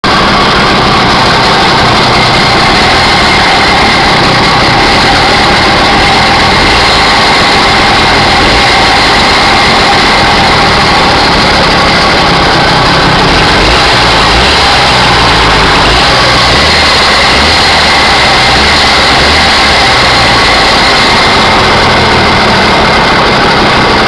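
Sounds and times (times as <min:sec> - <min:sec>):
two-stroke engine running: 0:00.0 - 0:24.0.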